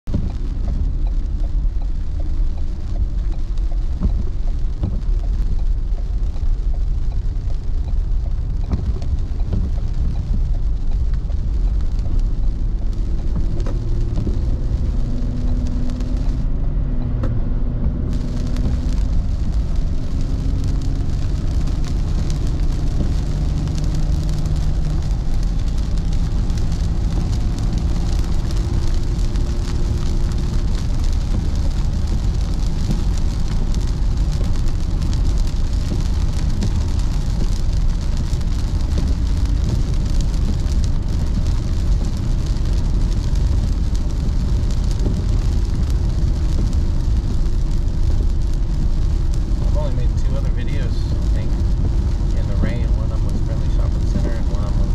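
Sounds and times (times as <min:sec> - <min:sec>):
low road rumble: 0:00.0 - 0:54.9.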